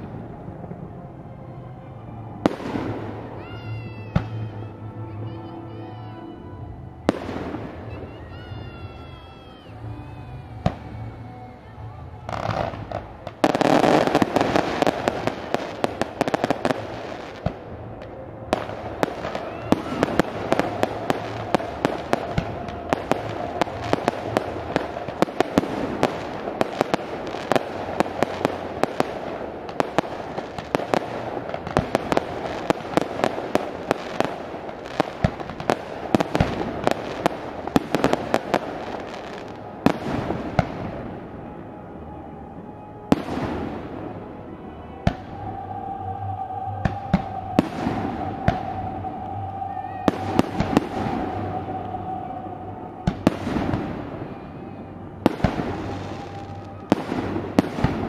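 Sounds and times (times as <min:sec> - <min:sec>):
fireworks bangs and crackles: 0:02.2 - 0:04.6, 0:07.0 - 0:42.0, 0:42.9 - 0:44.4, 0:45.0 - 0:58.0.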